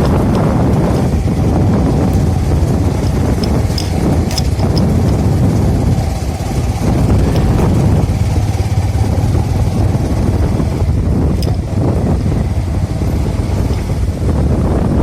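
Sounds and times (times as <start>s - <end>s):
road noise: 0.0s - 15.0s
vehicle engine rumble: 0.0s - 15.0s.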